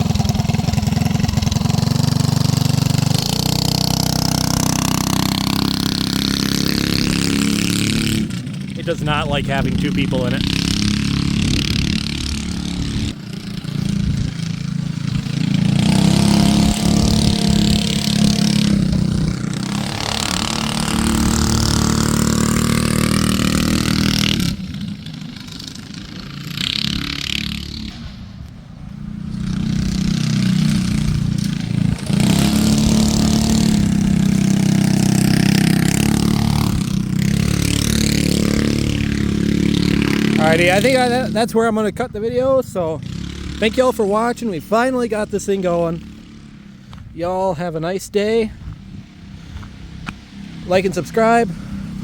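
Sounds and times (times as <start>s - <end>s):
go-kart engine revving: 0.0s - 52.0s.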